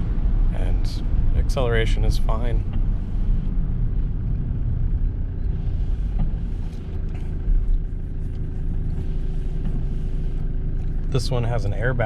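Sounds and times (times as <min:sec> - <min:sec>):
vehicle bump: 0:00.0 - 0:11.3
diesel engine rumble: 0:00.0 - 0:12.0
road and tyre noise: 0:00.0 - 0:12.0.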